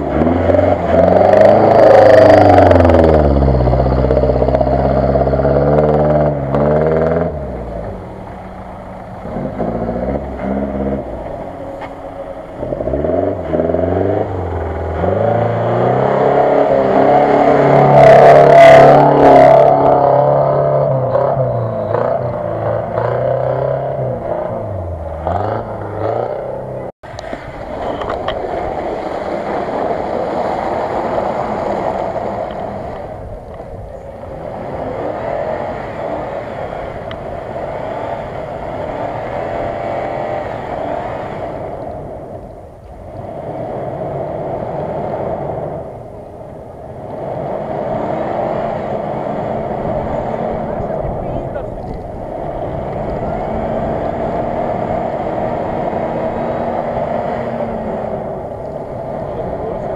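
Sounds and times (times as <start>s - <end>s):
engine revving in mud: 0.0s - 59.9s
vehicle engine driving off: 0.0s - 59.9s.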